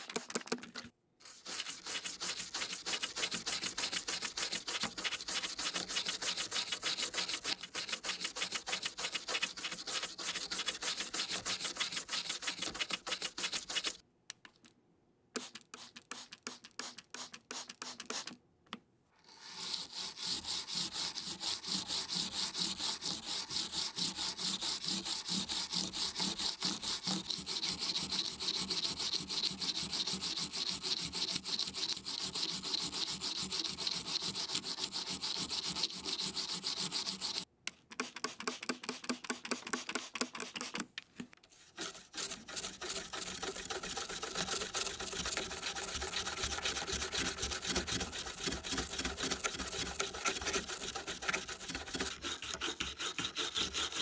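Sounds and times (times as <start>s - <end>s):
stiff brush scrubbing keyboard: 1.2s - 14.0s, 19.3s - 40.9s, 41.5s - 54.0s.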